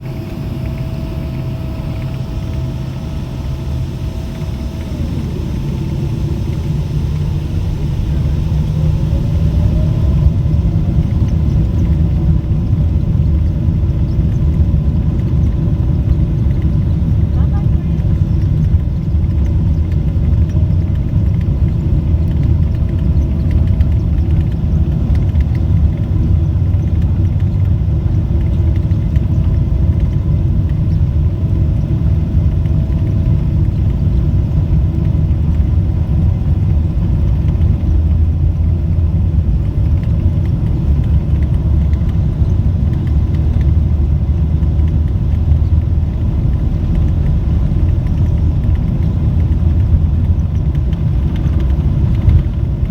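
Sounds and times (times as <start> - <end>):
airplane cabin engine rumble: 0.0 - 52.9
faint steady whine: 0.0 - 52.9.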